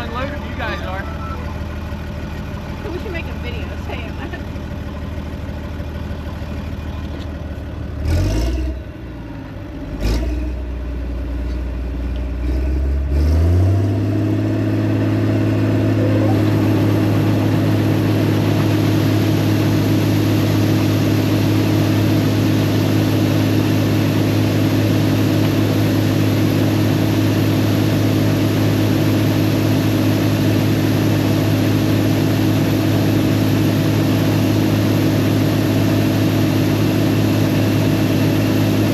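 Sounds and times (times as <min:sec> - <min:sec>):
combine engine running: 0:00.0 - 0:09.6, 0:14.4 - 0:38.9.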